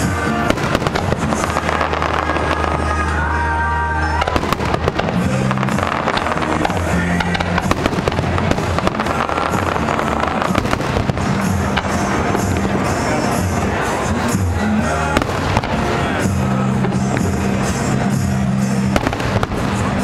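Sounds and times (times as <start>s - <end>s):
fireworks bangs and pops: 0.0s - 14.4s, 15.0s - 20.0s
loud music with bass: 0.0s - 20.0s.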